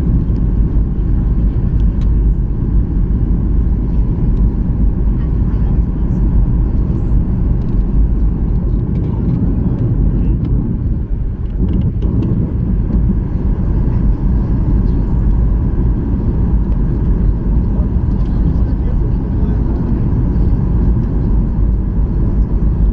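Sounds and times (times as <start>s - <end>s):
airflow over aircraft fuselage: 0.0s - 22.9s
low rumble of jet engines: 0.0s - 22.9s.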